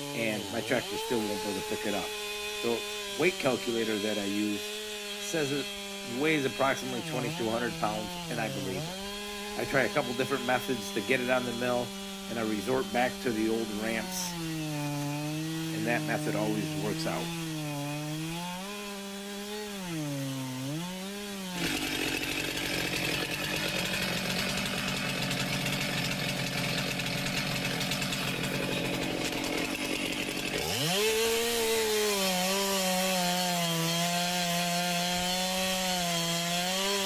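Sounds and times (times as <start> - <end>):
chainsaw revving and cutting log: 0.0 - 37.0.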